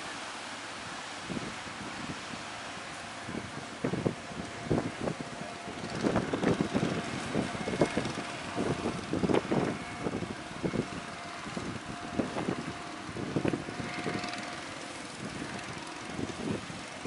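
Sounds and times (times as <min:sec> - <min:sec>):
boat motor droning: 0:00.0 - 0:17.0
low rumbling gusts: 0:00.0 - 0:17.0.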